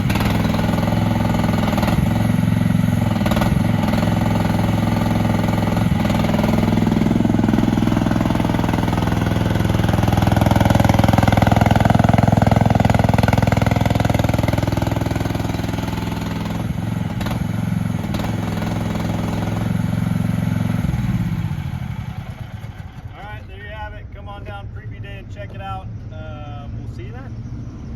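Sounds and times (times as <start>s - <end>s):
mini excavator engine running: 0.0s - 23.9s.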